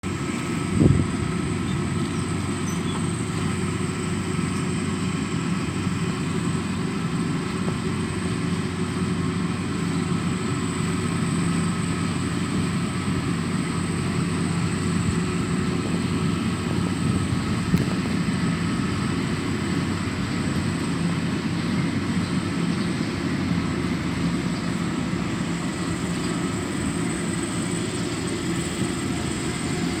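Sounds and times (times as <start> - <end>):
diesel engine hum: 0.0 - 30.0
high machinery whine: 0.0 - 30.0.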